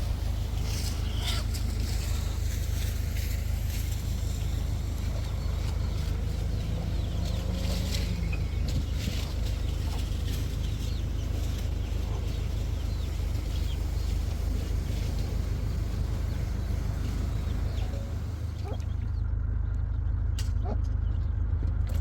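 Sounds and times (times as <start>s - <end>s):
chickens clucking: 0.0s - 19.1s
steady low rumble: 0.0s - 22.0s.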